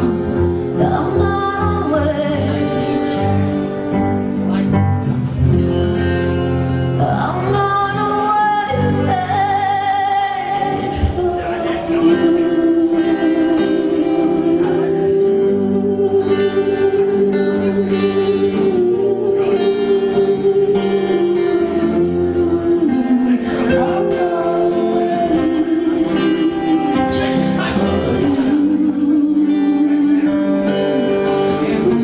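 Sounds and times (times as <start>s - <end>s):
woman singing: 0.0s - 3.7s, 6.9s - 32.0s
strummed acoustic guitar: 0.0s - 32.0s.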